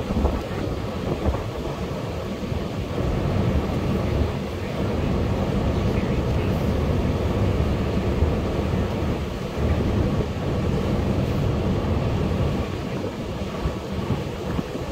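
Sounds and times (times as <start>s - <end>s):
ferry engines droning: 0.0s - 14.9s.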